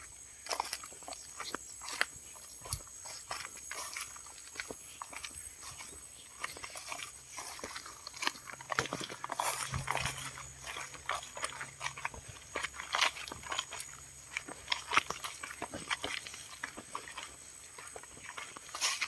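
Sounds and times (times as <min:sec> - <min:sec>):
crunching and clicking noises: 0:00.0 - 0:19.0
farm animals: 0:00.0 - 0:19.0.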